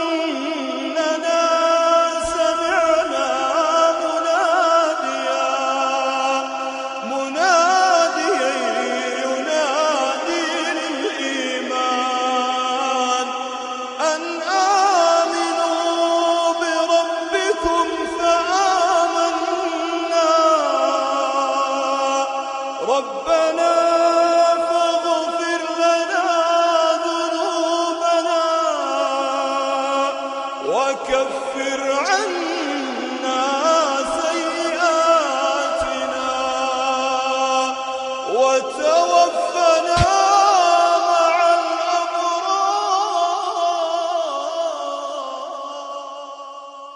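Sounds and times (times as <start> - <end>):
person chanting melodically: 0.0 - 46.9.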